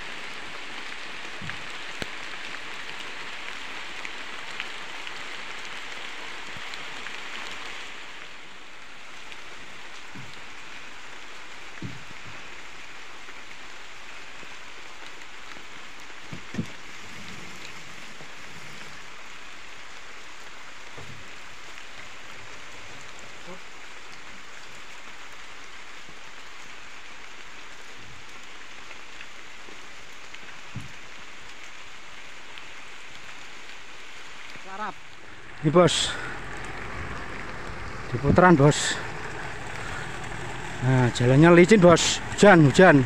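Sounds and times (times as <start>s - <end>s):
rain falling on foliage: 0.0s - 43.0s.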